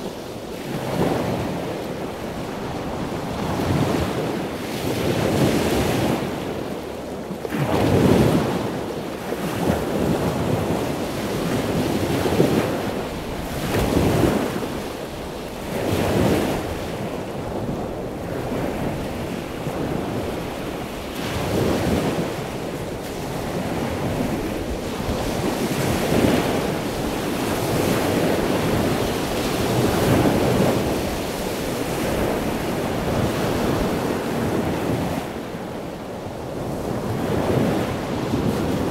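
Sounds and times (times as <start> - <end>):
ocean surf: 0.0 - 38.9
wind blowing across microphone: 0.0 - 38.9.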